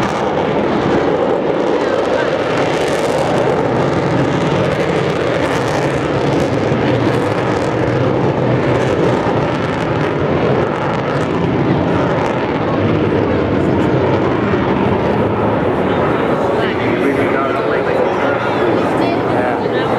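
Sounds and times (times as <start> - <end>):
jet bomber passing overhead: 0.0 - 19.9.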